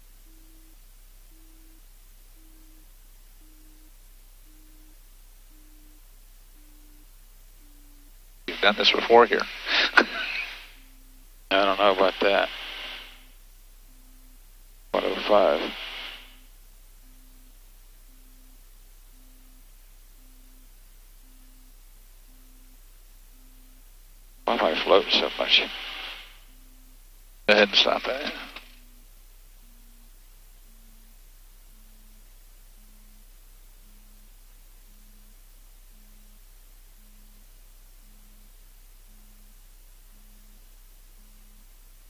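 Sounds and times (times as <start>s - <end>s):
deep hum and hiss: 0.0s - 42.0s
low electronic beep: 0.0s - 42.0s.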